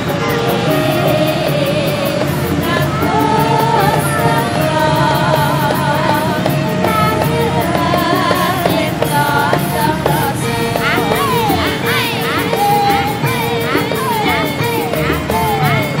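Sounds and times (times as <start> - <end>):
held backing notes: 0.0 - 16.0
person singing ornamented melody: 0.0 - 16.0.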